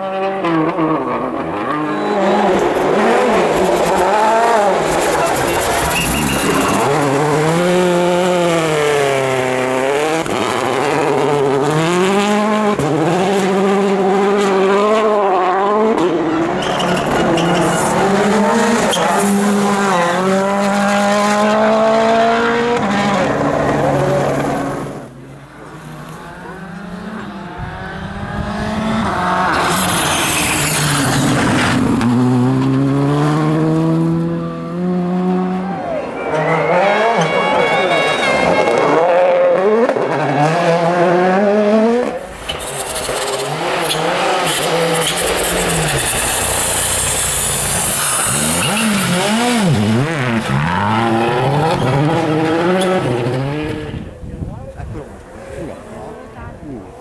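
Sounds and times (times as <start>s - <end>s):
rally car engine revving hard: 0.0s - 25.1s, 26.2s - 35.6s, 36.4s - 54.2s.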